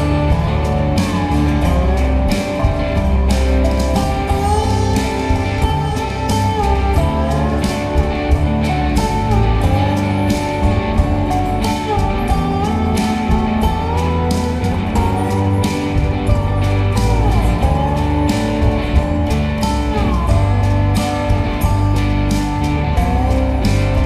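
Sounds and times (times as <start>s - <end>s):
drum beat: 0.0s - 24.0s
melody with gliding notes: 0.0s - 24.0s
steady bass line: 0.0s - 24.0s.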